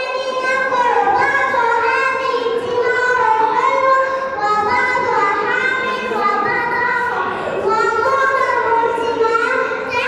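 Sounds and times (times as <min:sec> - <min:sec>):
girl singing: 0:00.0 - 0:10.0.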